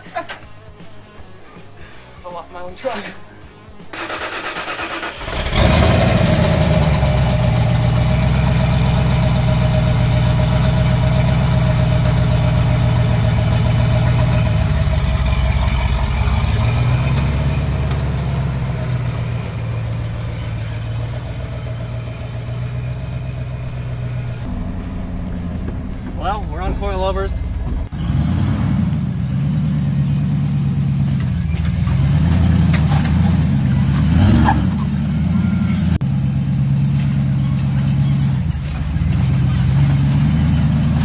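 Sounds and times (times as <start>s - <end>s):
pickup truck engine running: 4.0s - 41.0s.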